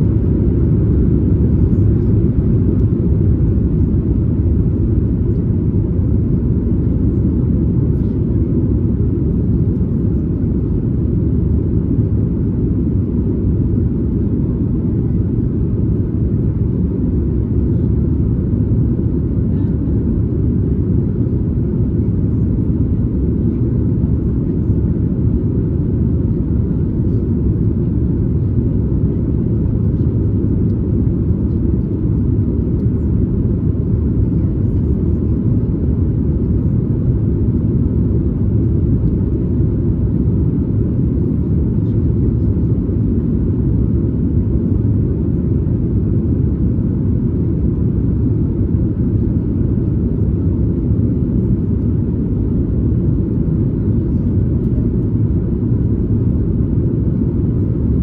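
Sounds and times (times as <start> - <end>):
airplane cabin low rumble: 0.0 - 58.0.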